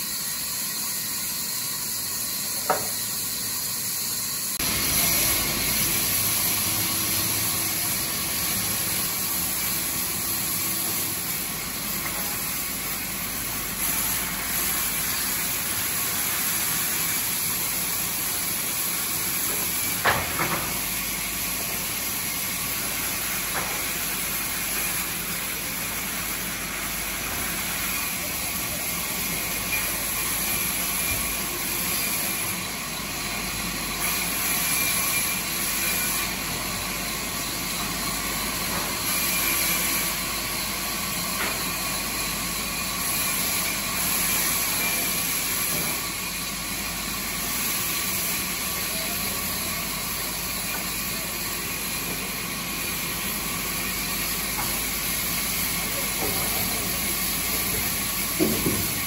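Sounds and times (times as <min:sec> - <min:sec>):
band saw cutting log: 0:02.0 - 0:59.0.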